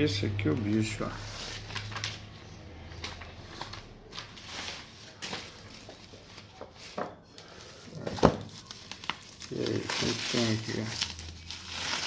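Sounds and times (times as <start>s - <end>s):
package rustling: 0.6s - 2.3s, 2.9s - 12.0s.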